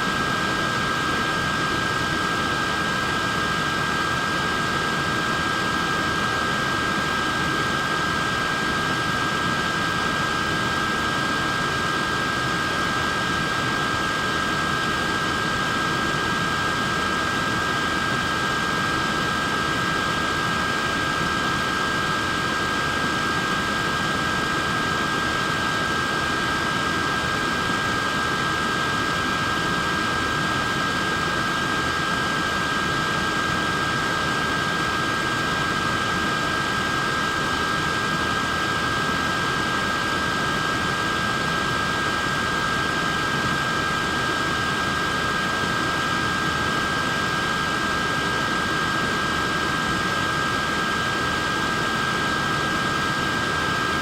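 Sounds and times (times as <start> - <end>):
electric fan whooshing and whining: 0.0 - 54.0.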